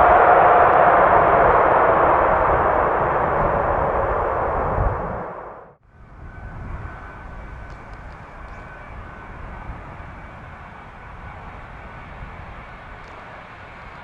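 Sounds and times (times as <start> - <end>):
jet engine rumble: 0.0 - 14.0.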